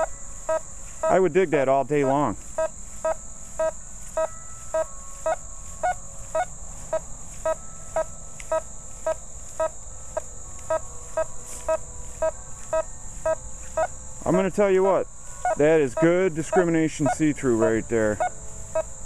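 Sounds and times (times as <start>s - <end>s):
metal detector beeps: 0.0s - 19.0s.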